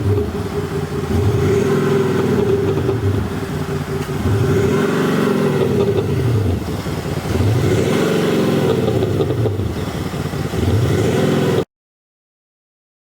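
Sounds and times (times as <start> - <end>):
diesel car engine revving: 0.0 - 11.7.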